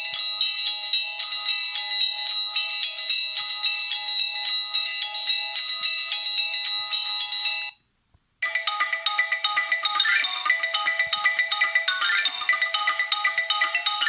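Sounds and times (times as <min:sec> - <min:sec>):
polyphonic phone ringtone: 0:00.0 - 0:07.8, 0:08.4 - 0:14.0.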